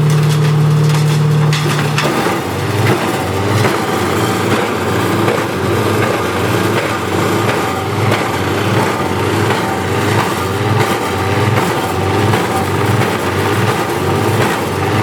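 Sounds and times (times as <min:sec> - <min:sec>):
wood chipper engine hum: 0:00.0 - 0:15.0
wood crunching and splintering: 0:00.0 - 0:15.0.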